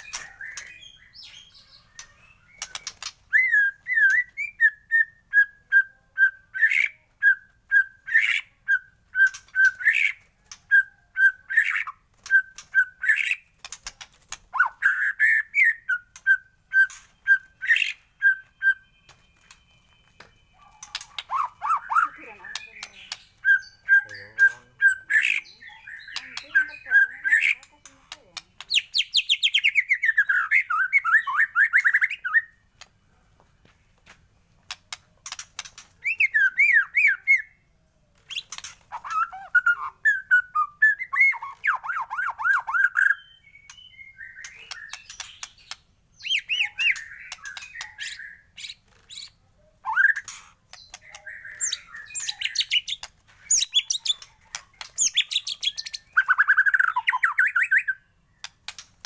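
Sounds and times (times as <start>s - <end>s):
bird singing warbles and trills: 0.0s - 33.2s, 34.6s - 59.0s.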